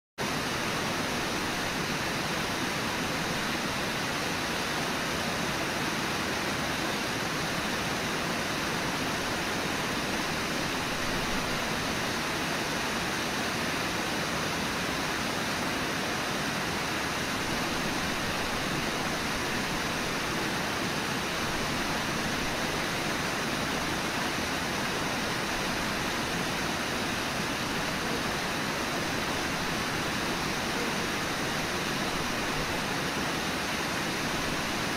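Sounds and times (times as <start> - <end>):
river rapids rushing: 0.2 - 34.9.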